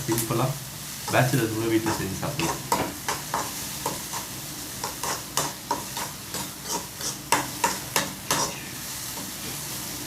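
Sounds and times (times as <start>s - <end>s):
faint sizzle: 0.0s - 10.0s
spoon scraping a pan: 1.1s - 9.6s.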